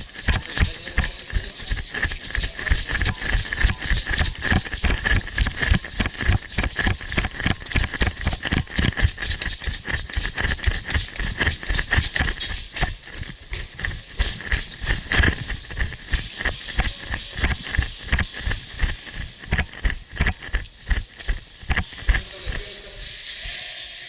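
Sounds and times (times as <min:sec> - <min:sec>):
gear rattling: 0:00.0 - 0:22.7
quick footsteps on rough ground: 0:00.0 - 0:22.8.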